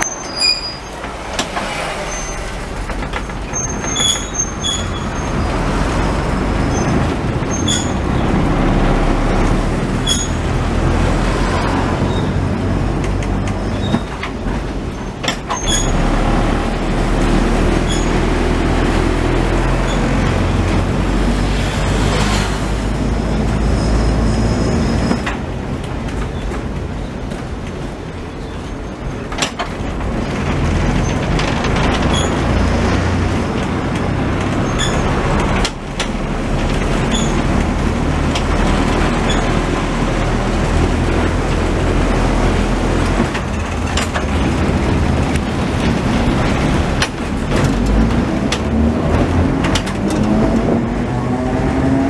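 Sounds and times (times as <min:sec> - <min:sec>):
tram wheels and motors rumbling: 0:00.0 - 0:52.0.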